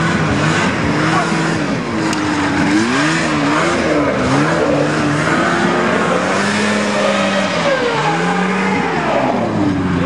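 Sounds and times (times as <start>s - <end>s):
snowmobile engines revving: 0.0s - 10.0s
steady rush of noise: 0.0s - 10.0s.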